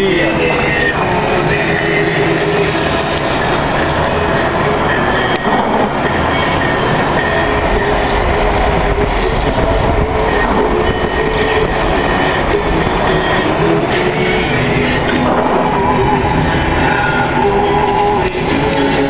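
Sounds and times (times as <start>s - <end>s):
strong wind roaring through trees: 0.0s - 19.0s
wind buffeting microphone: 0.0s - 19.0s.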